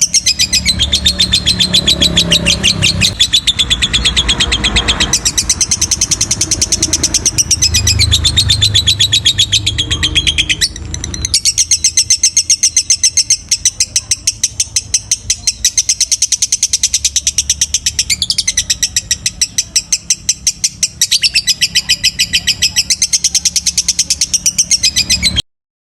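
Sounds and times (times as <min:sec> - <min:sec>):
bird chirping rapidly: 0:00.0 - 0:25.5.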